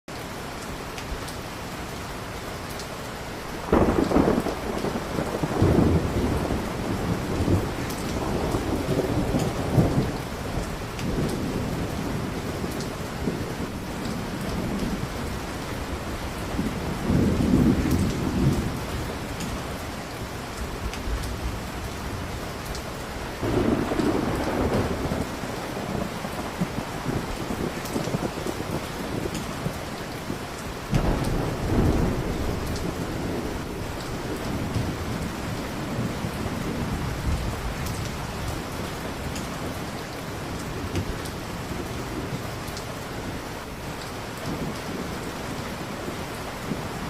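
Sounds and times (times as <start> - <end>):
steady rain: 0.1 - 47.0
thunder rumbling: 3.6 - 47.0.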